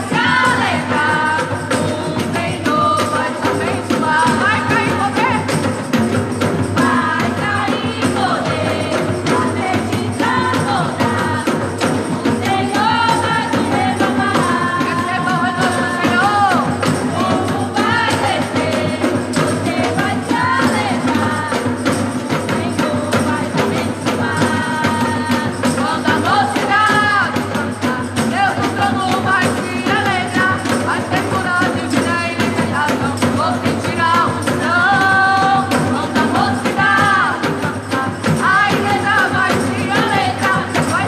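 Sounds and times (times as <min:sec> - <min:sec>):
drums beating: 0:00.0 - 0:41.0
gospel band with singing: 0:00.0 - 0:41.0
tambourine: 0:00.0 - 0:41.0.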